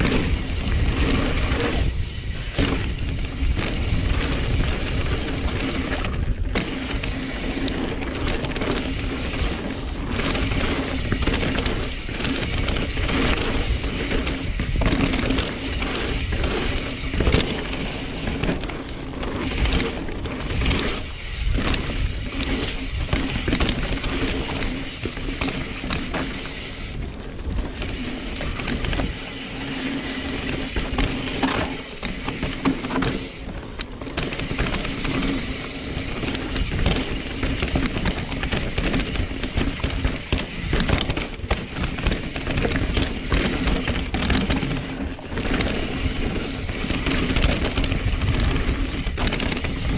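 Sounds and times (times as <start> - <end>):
bike rattling: 0.0 - 49.9
tyres rolling over rough ground: 0.0 - 49.9.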